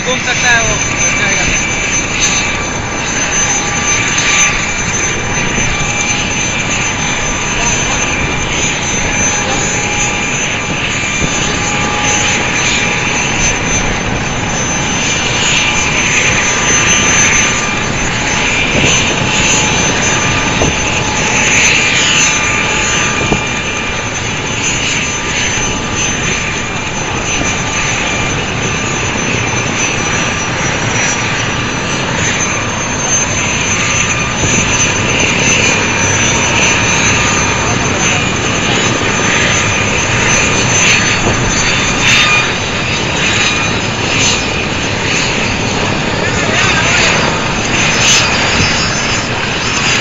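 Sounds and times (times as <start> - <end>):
helicopter rotor and engine: 0.0 - 50.0
high steady whine: 0.0 - 50.0.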